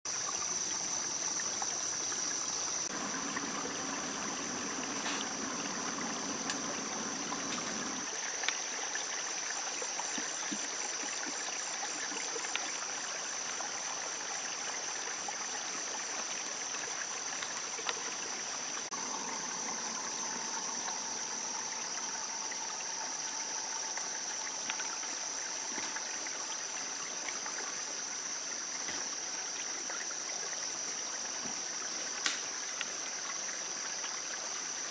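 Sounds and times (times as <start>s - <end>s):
running water: 0.1s - 34.9s.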